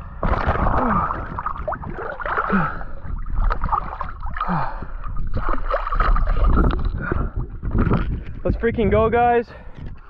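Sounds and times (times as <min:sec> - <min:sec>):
small water splashes: 0:00.0 - 0:08.4
water sloshing and gurgling: 0:00.0 - 0:09.0.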